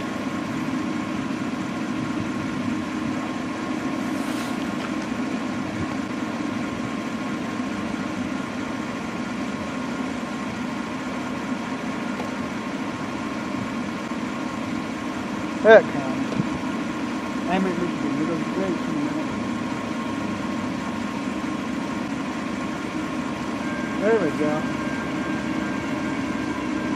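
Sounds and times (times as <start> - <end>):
engine idling hum: 0.0 - 26.9.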